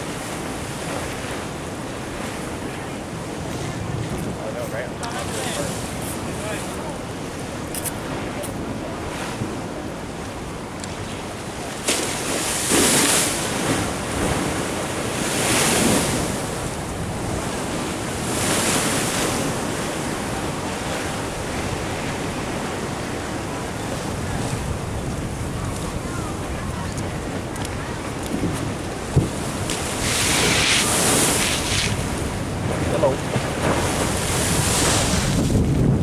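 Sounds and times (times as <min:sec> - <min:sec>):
ocean waves washing ashore: 0:00.0 - 0:36.0
wind noise on microphone: 0:00.0 - 0:36.0.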